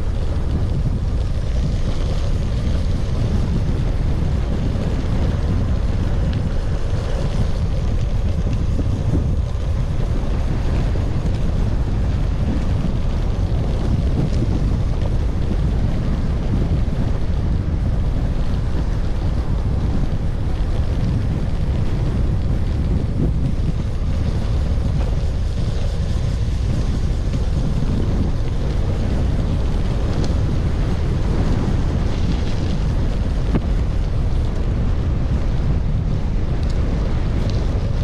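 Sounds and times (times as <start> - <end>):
faint ticks from bike ride: 0.0 - 38.0
wind buffeting microphone: 0.0 - 38.0.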